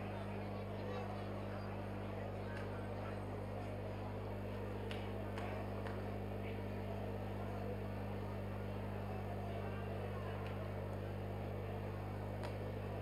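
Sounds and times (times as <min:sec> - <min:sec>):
low electrical mains hum: 0:00.0 - 0:13.0.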